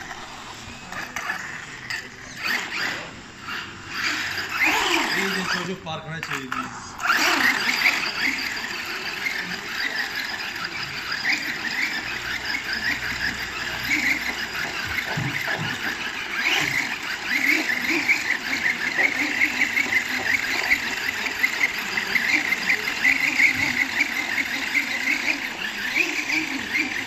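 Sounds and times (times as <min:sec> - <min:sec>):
toy truck motor whine: 0:00.0 - 0:27.0.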